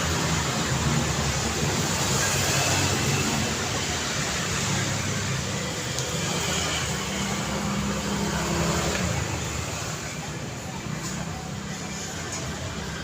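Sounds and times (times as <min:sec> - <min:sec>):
engine hum of passing vehicles: 0:00.0 - 0:13.0
tyres rushing on highway: 0:00.0 - 0:13.0.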